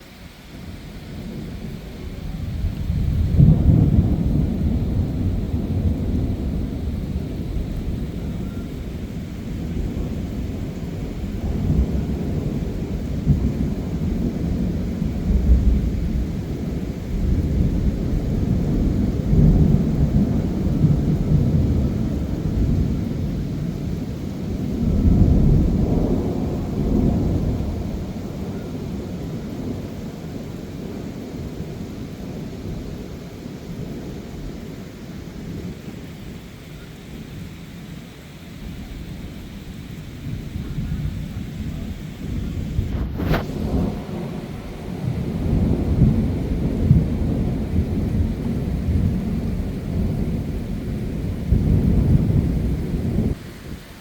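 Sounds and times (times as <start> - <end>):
thunder rolling and rumbling: 0.0 - 37.6, 38.6 - 54.0
heavy rain hissing: 0.0 - 54.0.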